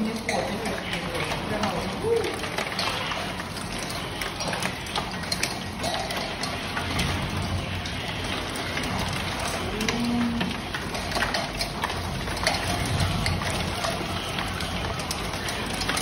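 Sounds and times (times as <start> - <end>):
raindrops ticking on glass: 0.0 - 16.0.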